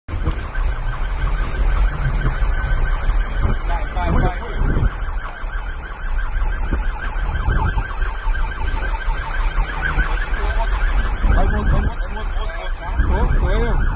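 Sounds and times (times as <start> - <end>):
engine and road rumble: 0.0 - 13.9
police siren yelping: 0.1 - 13.9.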